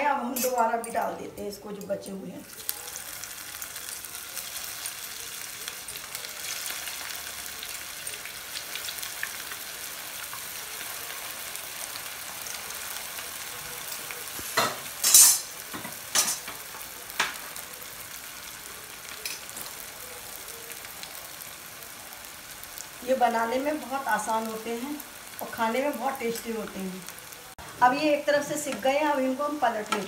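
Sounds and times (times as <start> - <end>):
food deep-frying in oil: 2.4 - 30.0.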